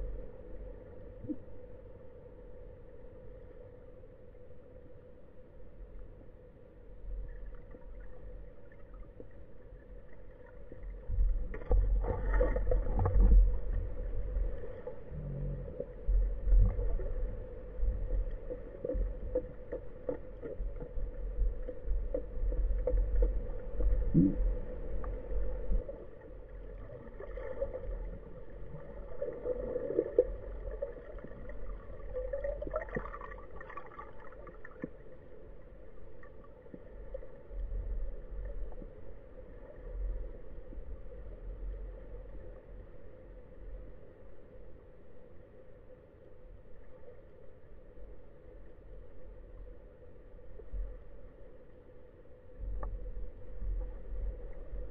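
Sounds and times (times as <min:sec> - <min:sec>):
underwater rumbling water: 0:00.0 - 0:04.9, 0:05.5 - 0:54.9
steady high hum: 0:00.0 - 0:54.9.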